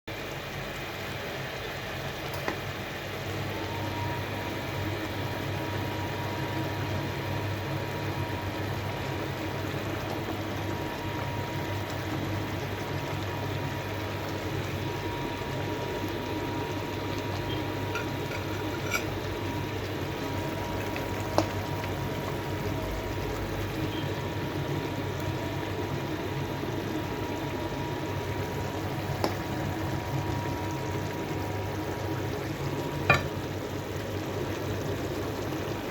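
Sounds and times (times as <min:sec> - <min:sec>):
sauce bubbling in a pan: 0:00.1 - 0:35.9
thin steady whine: 0:02.2 - 0:35.9.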